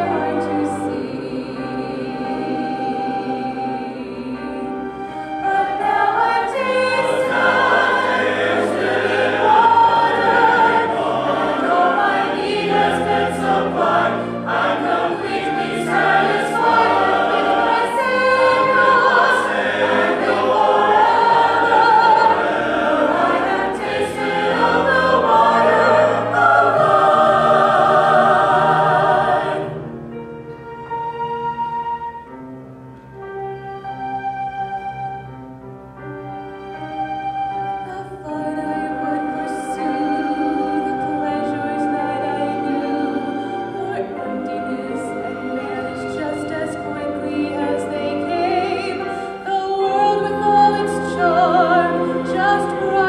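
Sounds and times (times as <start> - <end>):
mixed choir singing a hymn: 0.0 - 30.2, 37.9 - 53.0
instrumental accompaniment: 0.0 - 53.0.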